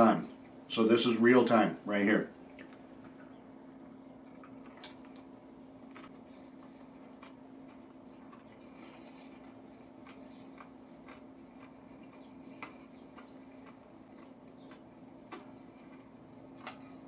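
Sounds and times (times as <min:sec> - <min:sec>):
steady low hum: 0:00.0 - 0:17.0
crunchy chewing: 0:02.5 - 0:17.0.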